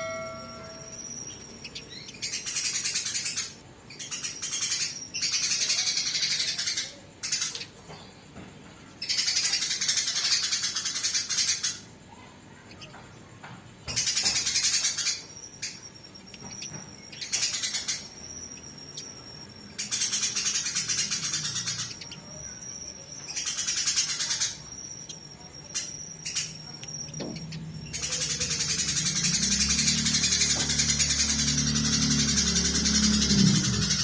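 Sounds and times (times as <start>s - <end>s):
sparrows chirping harshly: 0.0s - 34.0s.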